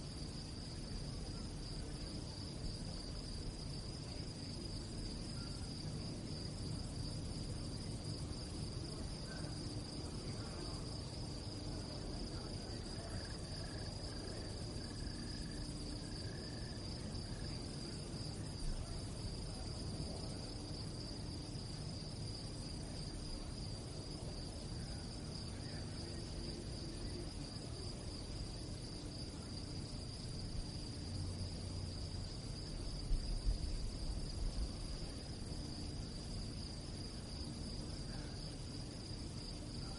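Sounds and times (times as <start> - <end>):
crickets chirping: 0.0 - 39.9
low background rumble: 0.0 - 39.9.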